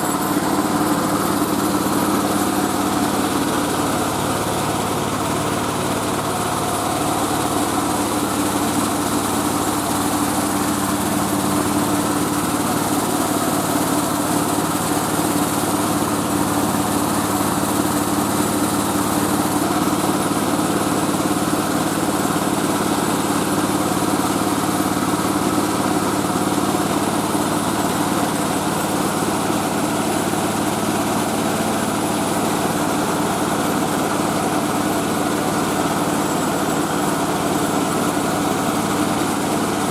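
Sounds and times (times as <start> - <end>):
milling machine engine running: 0.0 - 39.9.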